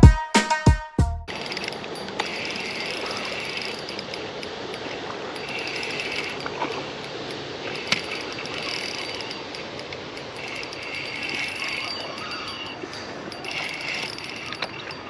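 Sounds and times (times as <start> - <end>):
fishing reel clicking: 1.3 - 15.0.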